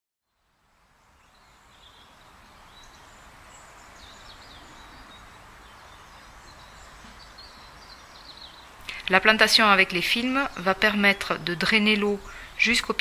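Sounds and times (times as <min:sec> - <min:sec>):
small birds chirping: 0:00.3 - 0:13.0
steady background hiss: 0:00.3 - 0:13.0.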